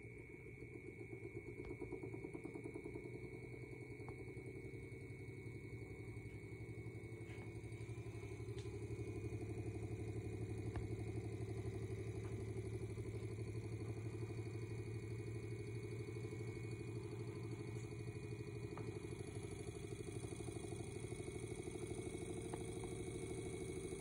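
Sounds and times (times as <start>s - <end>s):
electric fan motor hum: 0.0s - 24.0s.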